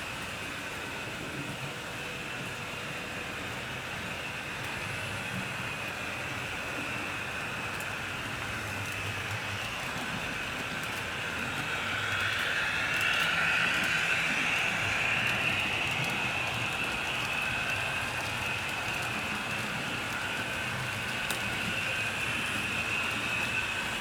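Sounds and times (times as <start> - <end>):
model train whirring on rails: 0.0 - 24.0.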